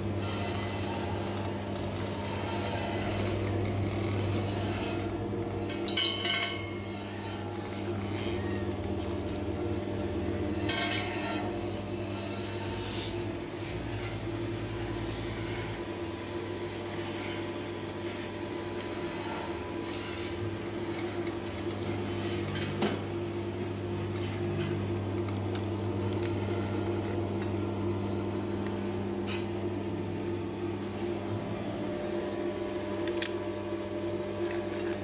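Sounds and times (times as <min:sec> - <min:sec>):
oil expeller motor humming: 0:00.0 - 0:35.0.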